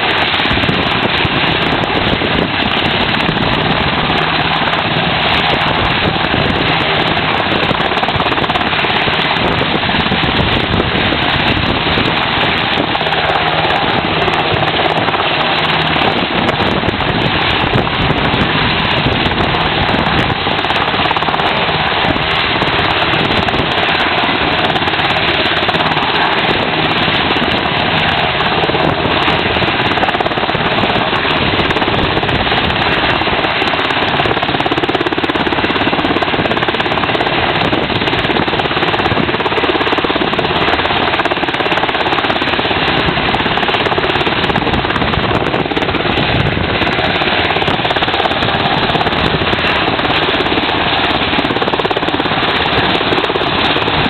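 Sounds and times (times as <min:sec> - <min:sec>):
helicopter hovering: 0:00.0 - 0:54.0.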